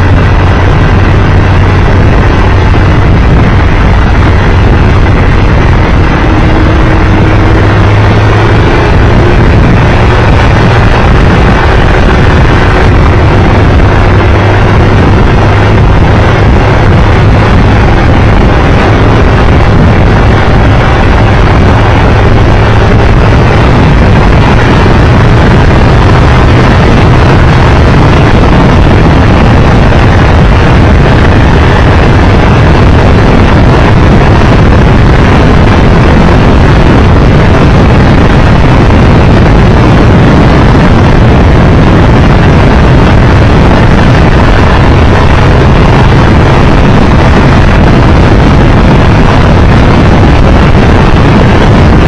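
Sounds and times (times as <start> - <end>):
motorcycle engine drone: 0.0 - 52.0
wind rushing over microphone: 0.0 - 52.0.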